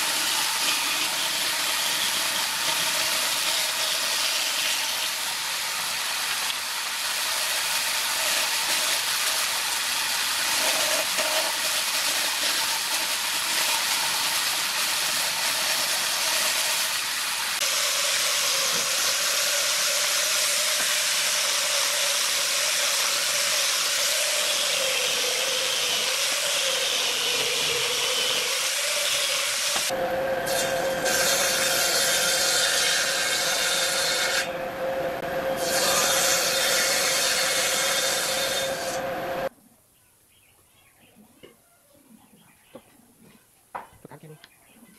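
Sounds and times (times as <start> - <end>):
angle grinder sanding wood: 0.0 - 39.5
band saw cutting wood: 0.0 - 39.5
saw machine low running sound: 0.0 - 39.5.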